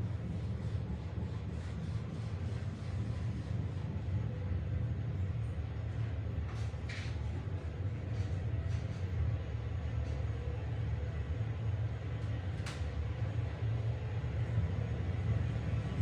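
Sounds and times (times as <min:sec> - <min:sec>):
elevator low rumble: 0:00.0 - 0:16.0.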